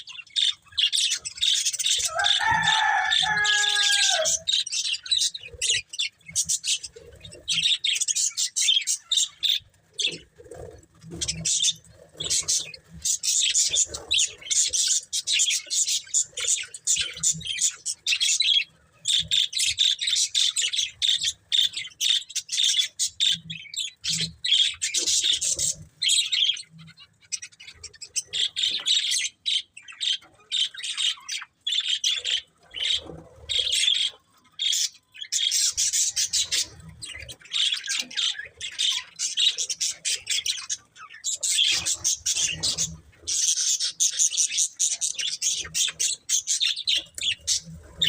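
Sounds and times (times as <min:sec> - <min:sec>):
budgerigars chirping: 0:00.0 - 0:48.0.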